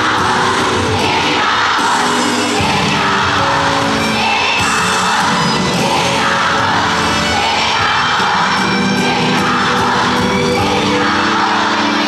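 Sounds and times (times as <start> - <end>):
crowd screaming and cheering: 0.0 - 12.0
live concert music: 0.0 - 12.0.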